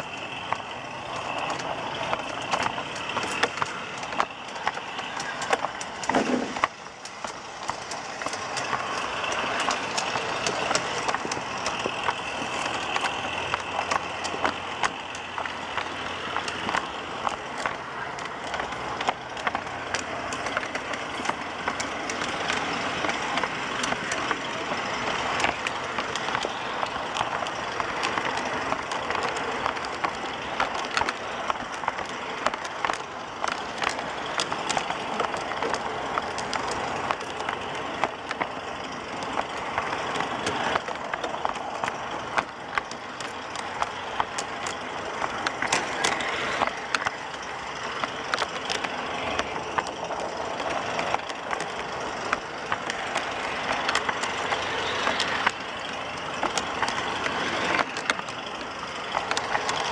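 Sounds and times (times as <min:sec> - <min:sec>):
model train rolling on track: 0:00.0 - 0:59.9.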